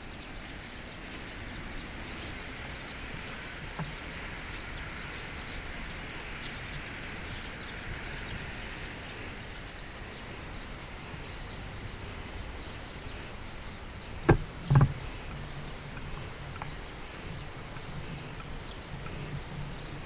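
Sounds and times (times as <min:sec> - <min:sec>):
city background noise: 0:00.0 - 0:20.0.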